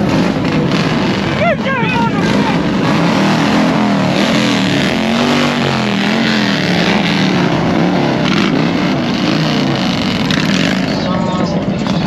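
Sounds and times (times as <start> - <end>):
motorcycle engines at low speed: 0.0 - 12.0.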